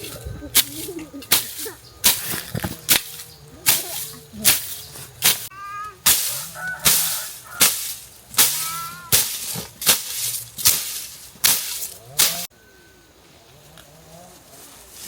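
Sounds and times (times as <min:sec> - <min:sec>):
rhythmic swishing strokes: 0:00.0 - 0:12.5.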